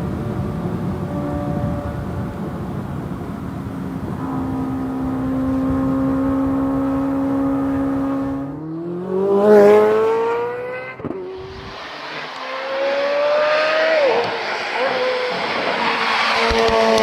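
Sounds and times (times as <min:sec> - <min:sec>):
car exhaust accelerating: 0:00.0 - 0:17.0.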